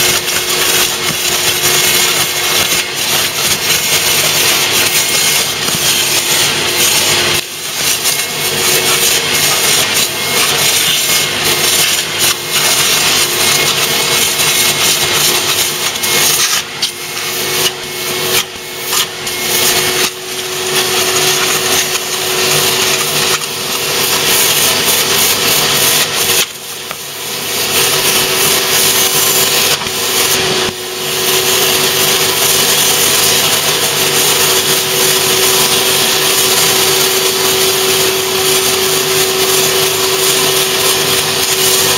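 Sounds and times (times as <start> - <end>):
air and water rushing through nozzle: 0.0 - 41.9
vacuum motor whining: 0.0 - 41.9.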